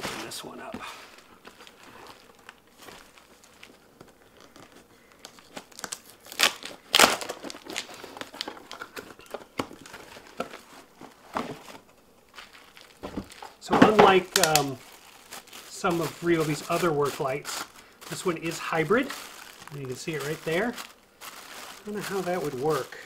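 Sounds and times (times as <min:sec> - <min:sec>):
cardboard packaging crinkling: 0:00.0 - 0:23.0
sharp packaging crackles: 0:00.0 - 0:23.0.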